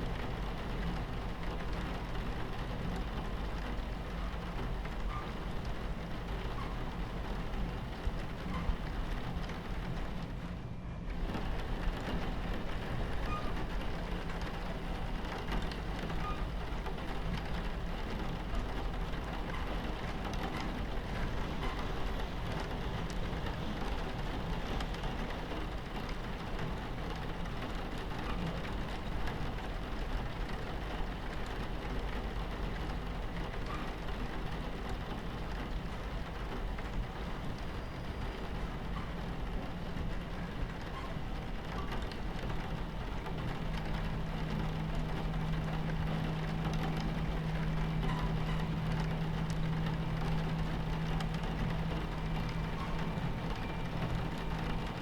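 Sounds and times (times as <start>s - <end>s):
rain pattering on window: 0.0s - 55.0s
train rumbling on tracks: 0.0s - 55.0s.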